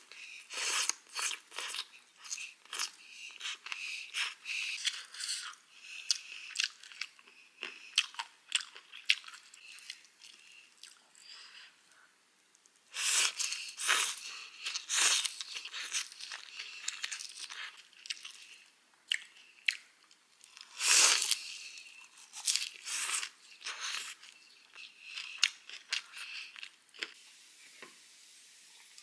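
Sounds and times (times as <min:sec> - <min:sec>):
chewing and crunching food: 0:00.1 - 0:11.8, 0:12.6 - 0:27.2.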